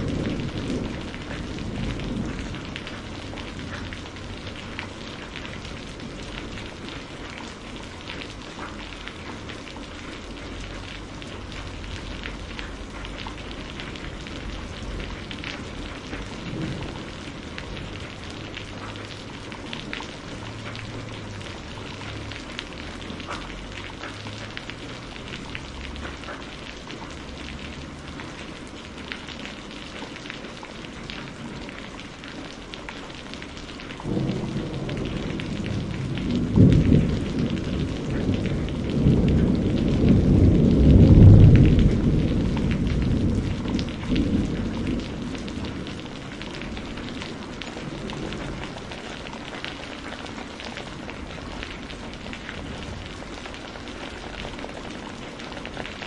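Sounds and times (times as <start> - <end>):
raindrops ticking: 0.0 - 56.0
steady rain falling: 0.0 - 56.0.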